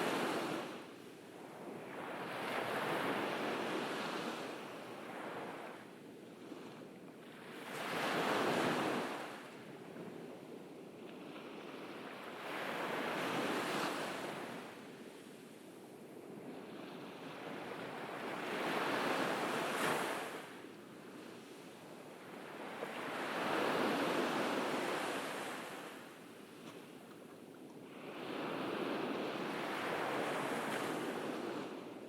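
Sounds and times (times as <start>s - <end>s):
ocean waves breaking on beach: 0.0s - 9.6s, 11.1s - 26.9s, 27.8s - 32.0s.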